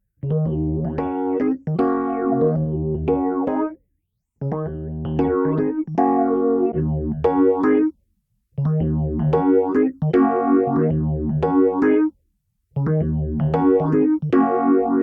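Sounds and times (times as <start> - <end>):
electric piano chords and melody: 0.2 - 3.8, 4.4 - 7.9, 8.6 - 12.1, 12.8 - 15.0.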